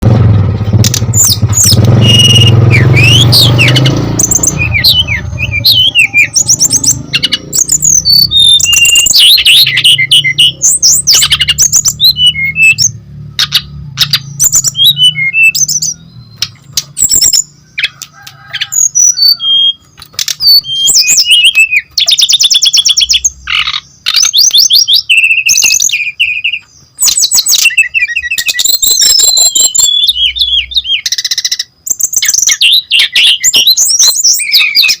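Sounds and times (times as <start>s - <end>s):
bird singing: 0.0s - 35.0s.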